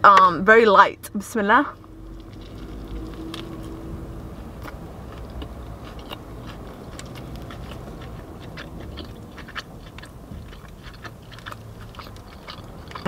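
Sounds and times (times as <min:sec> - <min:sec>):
chewing with wet mouth clicks: 0:01.8 - 0:13.0.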